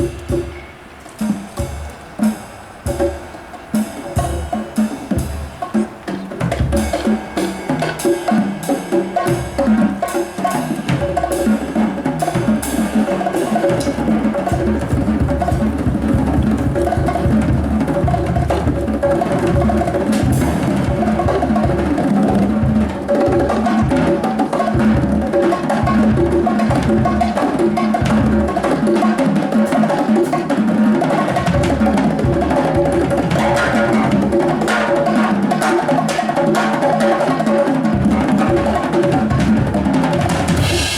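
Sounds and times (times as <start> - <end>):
drums and percussion: 0.0 - 40.9
live band music: 0.0 - 40.9.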